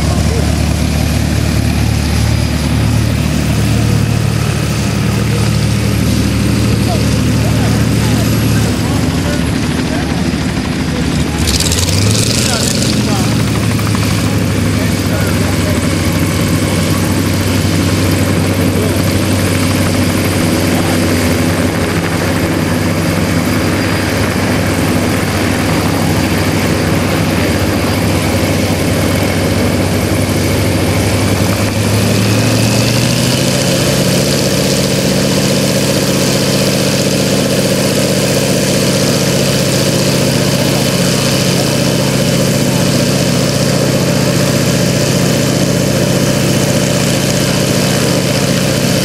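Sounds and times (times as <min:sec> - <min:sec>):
radial engine idling: 0:00.0 - 0:49.0.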